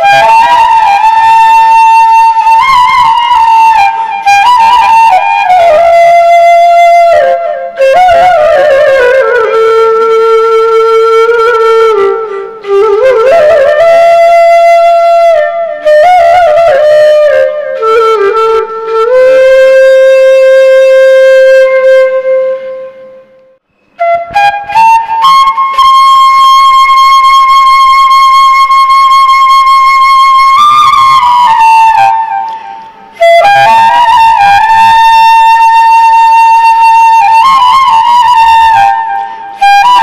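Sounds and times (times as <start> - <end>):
slow solo flute melody: 0.0 - 40.0.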